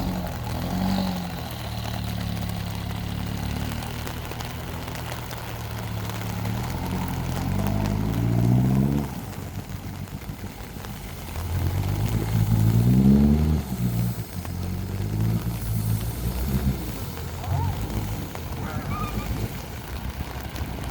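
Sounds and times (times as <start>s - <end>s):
diesel engine revving: 0.0s - 20.9s.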